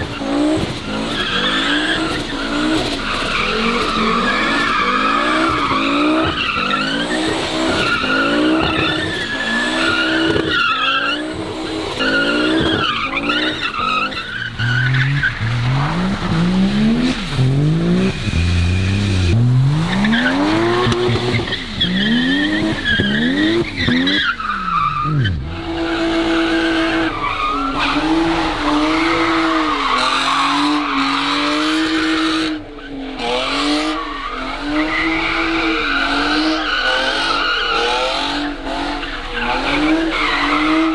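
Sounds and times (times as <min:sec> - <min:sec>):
car engines revving: 0:00.0 - 0:40.9
tyres squealing and skidding: 0:00.0 - 0:40.9.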